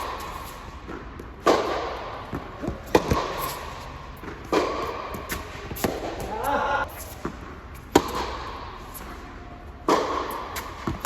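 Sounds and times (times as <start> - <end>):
ball bouncing on court: 0.0 - 3.6, 4.2 - 8.6, 9.8 - 11.0
racquet hitting tennis ball: 0.0 - 11.0.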